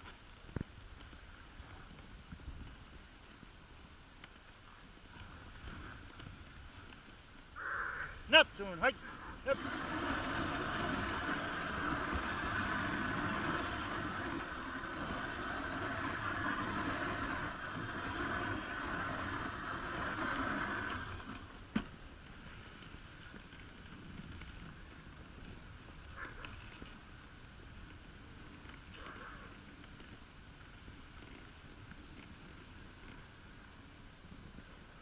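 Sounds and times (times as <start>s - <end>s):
sled runners scraping over ice: 0.0s - 35.0s.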